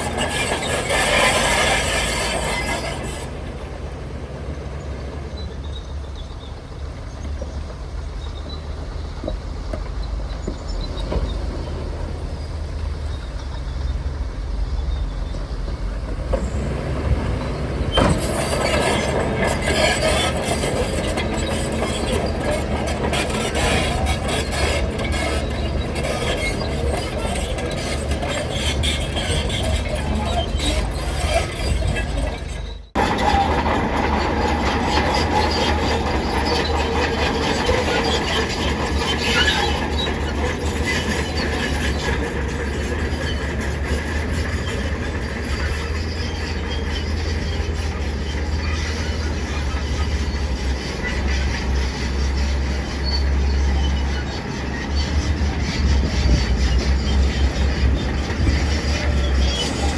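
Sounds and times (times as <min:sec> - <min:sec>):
bulldozer diesel engine running: 0:00.0 - 0:59.9
steel tracks clanking and squeaking: 0:00.0 - 0:59.9.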